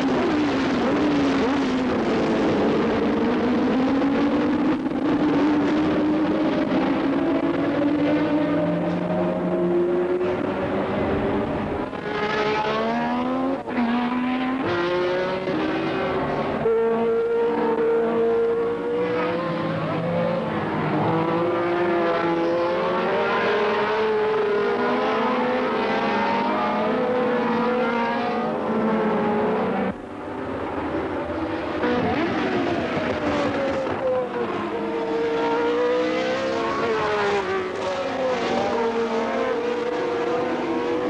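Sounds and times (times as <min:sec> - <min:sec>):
racing car engines passing: 0:00.0 - 0:41.0.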